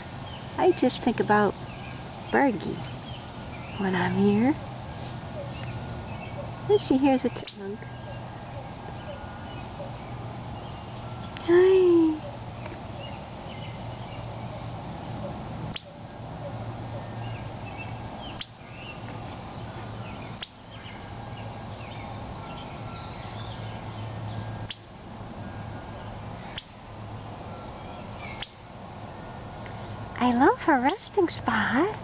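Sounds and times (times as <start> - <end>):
faint birds chirping: 0.0 - 32.0.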